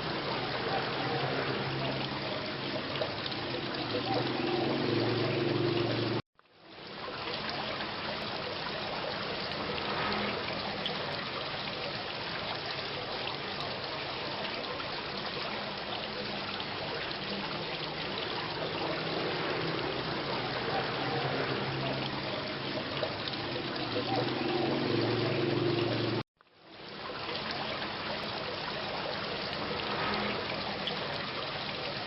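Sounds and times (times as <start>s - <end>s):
steady rain: 0.0s - 32.0s
water dripping and trickling: 0.0s - 32.0s.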